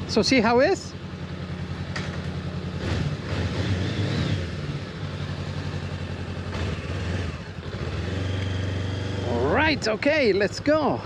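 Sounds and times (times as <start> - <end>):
motorcycle engine idling: 0.0 - 3.4, 4.4 - 11.0.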